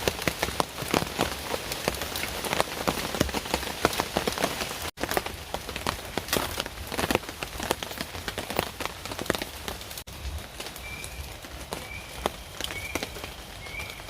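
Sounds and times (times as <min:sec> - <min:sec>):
heavy rain falling: 0:00.0 - 0:14.0
raindrops ticking on surface: 0:00.0 - 0:14.0.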